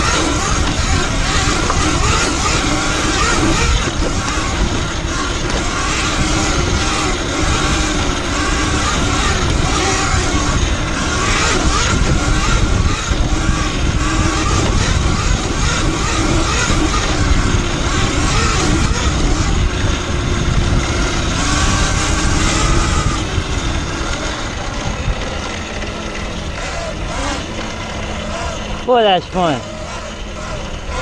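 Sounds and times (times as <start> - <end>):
electric motor whine: 0.0 - 31.0
tyres on dirt: 0.0 - 31.0
wind rush on microphone: 0.0 - 31.0.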